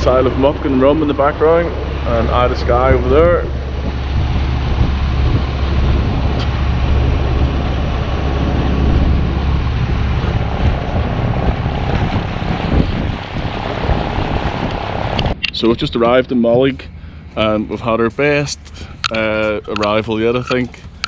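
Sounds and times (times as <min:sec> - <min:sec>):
water rushing along hull: 0:00.0 - 0:17.6
boat engine rumbling: 0:00.0 - 0:21.0
wind buffeting microphone: 0:00.0 - 0:21.0.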